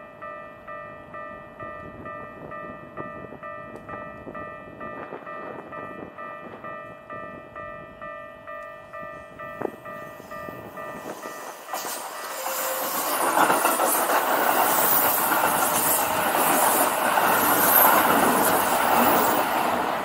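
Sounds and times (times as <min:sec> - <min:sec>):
train wheels over rail joints: 0:01.6 - 0:20.0.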